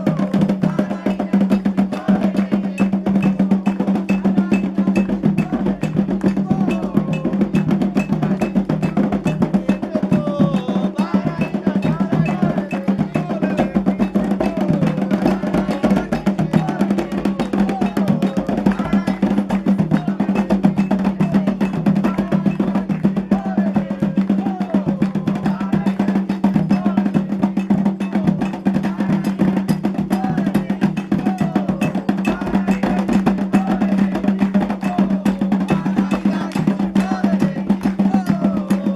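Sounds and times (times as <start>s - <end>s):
hand drums playing: 0.0s - 38.9s
voices singing: 0.0s - 38.9s.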